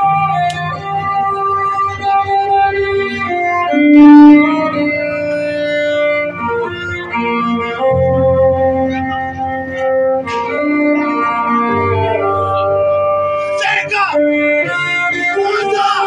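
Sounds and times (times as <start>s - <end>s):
organ-like keyboard chords: 0.0s - 16.0s.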